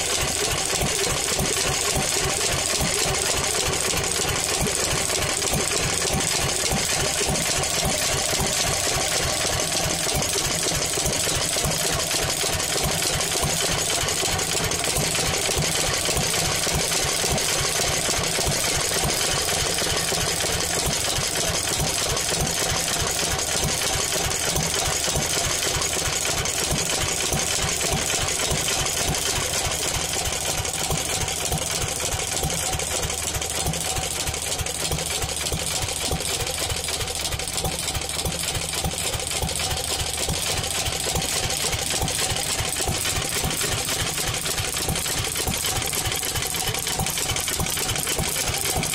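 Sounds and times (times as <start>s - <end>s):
stationary engine running: 0.0s - 48.9s.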